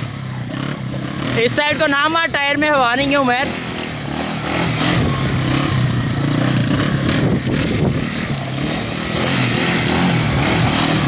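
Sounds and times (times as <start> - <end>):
quad engine revving: 0.0 - 11.0.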